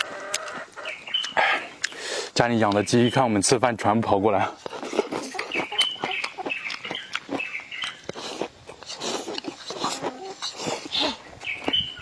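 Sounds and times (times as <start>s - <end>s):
chickens clucking: 0.0s - 3.4s, 4.4s - 12.0s
people chewing and eating: 0.0s - 12.0s.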